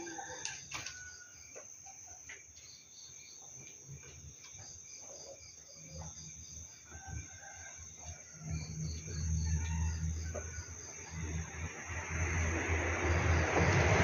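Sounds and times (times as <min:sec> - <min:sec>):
cricket trill: 0:00.0 - 0:14.0
pulsing insect chirp: 0:00.0 - 0:14.0.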